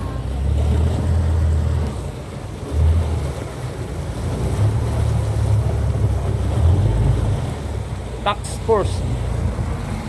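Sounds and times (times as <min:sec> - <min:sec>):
outboard motor running: 0:00.0 - 0:10.0
water rushing past boat: 0:00.0 - 0:10.0.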